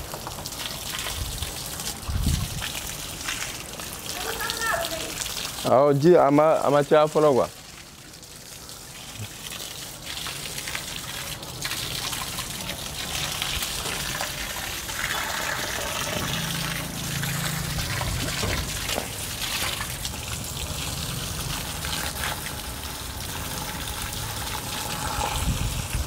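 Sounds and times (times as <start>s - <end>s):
garden hose spraying water: 0.0s - 26.0s.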